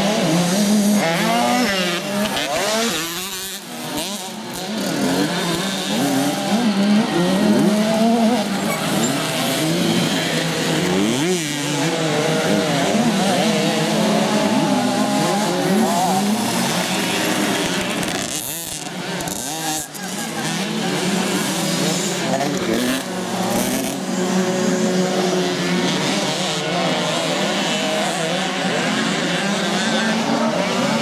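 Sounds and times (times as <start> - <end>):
motocross bikes revving: 0.0 - 31.0.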